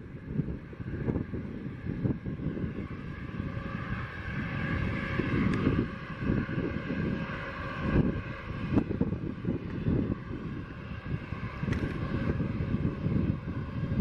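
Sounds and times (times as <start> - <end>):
jet engines whining: 0.0 - 14.0
wind buffeting microphone: 0.0 - 14.0.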